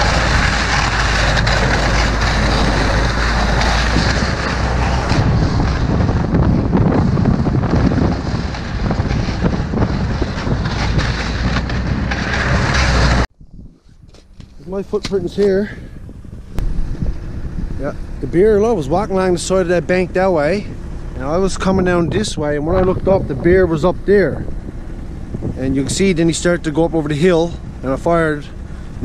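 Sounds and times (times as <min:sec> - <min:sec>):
snowmobile engine running: 0:00.0 - 0:13.3, 0:14.4 - 0:29.0
wind rush on microphone: 0:00.0 - 0:29.0.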